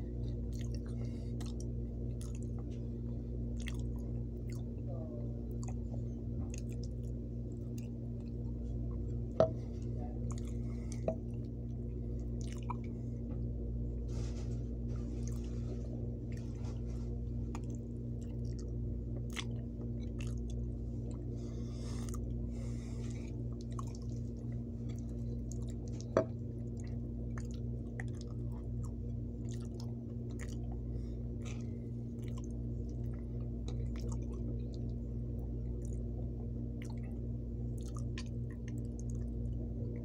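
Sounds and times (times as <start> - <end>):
wet chewing: 0.0 - 13.4, 14.2 - 39.6
steady low hum: 0.0 - 40.0.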